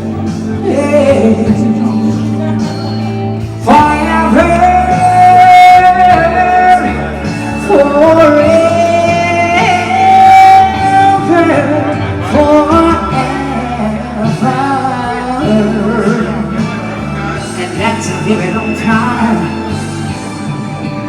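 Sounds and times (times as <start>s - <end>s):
backing accompaniment: 0.0s - 21.0s
man singing soul ballad: 0.0s - 21.0s.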